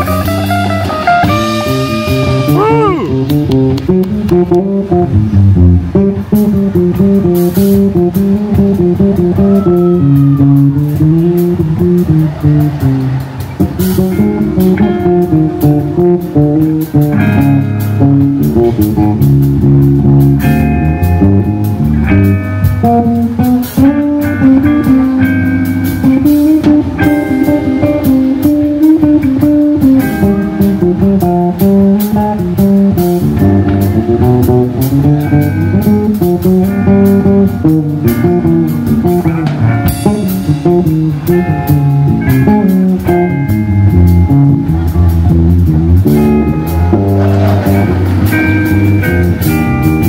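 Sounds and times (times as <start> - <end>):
bass: 0.0 - 50.0
drums: 0.0 - 50.0
guitar: 0.0 - 50.0.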